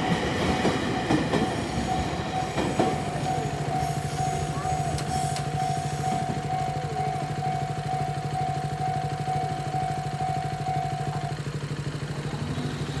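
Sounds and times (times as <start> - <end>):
level-crossing alarm ringing: 0.0 - 13.0
low engine-like hum: 0.1 - 13.0.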